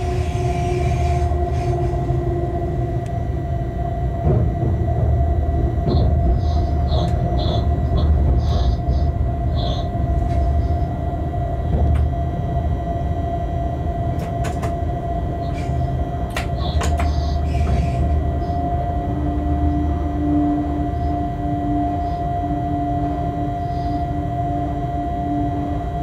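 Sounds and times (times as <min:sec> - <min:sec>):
train cab low rumble: 0:00.0 - 0:26.0.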